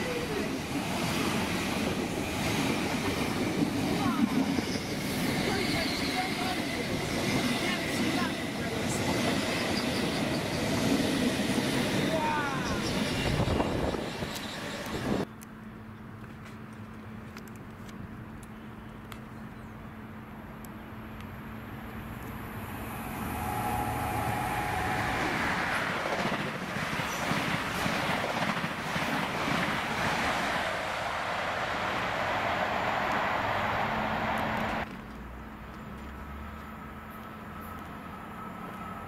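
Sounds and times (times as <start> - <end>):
train passing through station: 0.0 - 16.1, 16.7 - 39.0.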